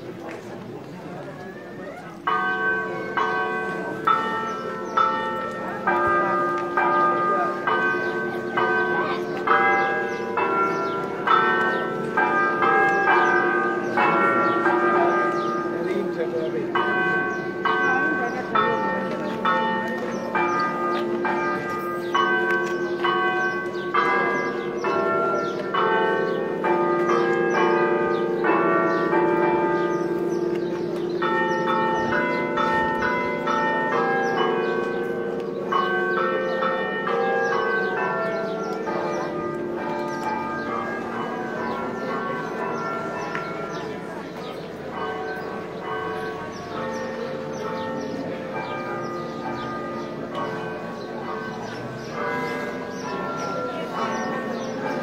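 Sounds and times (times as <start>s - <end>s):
church bells ringing a peal: 0.0s - 55.0s.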